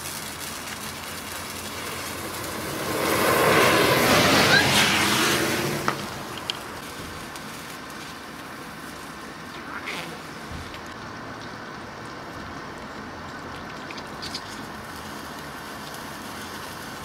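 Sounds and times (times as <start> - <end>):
sparklers hissing: 0.0 - 11.0, 14.0 - 17.0.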